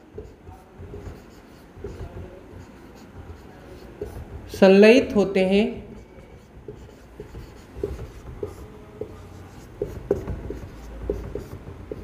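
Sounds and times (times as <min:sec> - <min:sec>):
marker squeaking on whiteboard: 0:00.0 - 0:04.8, 0:05.8 - 0:12.0.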